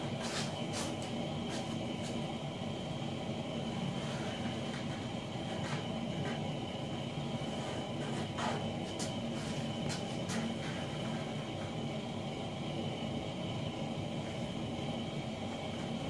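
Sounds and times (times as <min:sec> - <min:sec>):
heater humming: 0:00.0 - 0:16.0.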